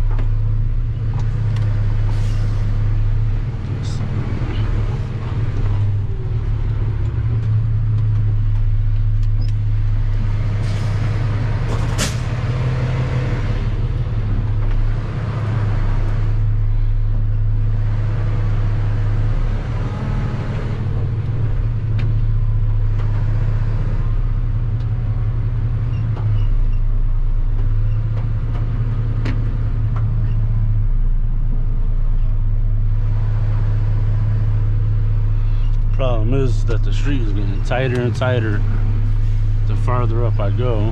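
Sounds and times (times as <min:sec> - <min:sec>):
truck diesel engine droning: 0:00.0 - 0:40.9.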